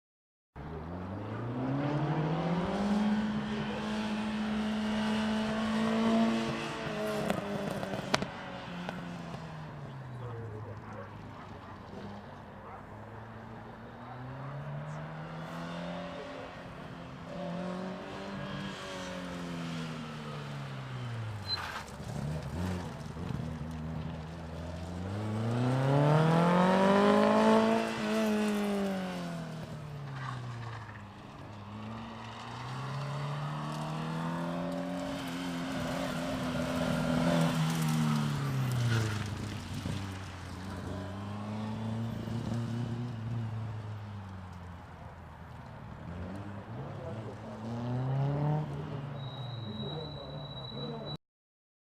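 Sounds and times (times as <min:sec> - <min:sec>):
car engine revving: 0:00.7 - 0:44.3, 0:46.0 - 0:49.4.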